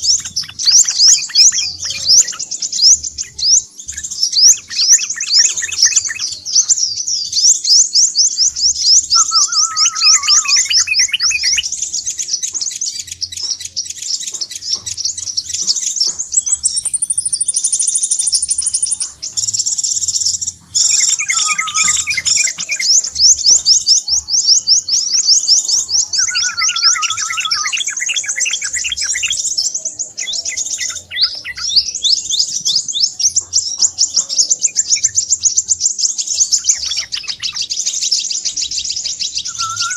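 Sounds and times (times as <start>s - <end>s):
birds chirping: 0.0s - 39.9s
buzzy bird trills: 0.0s - 39.9s.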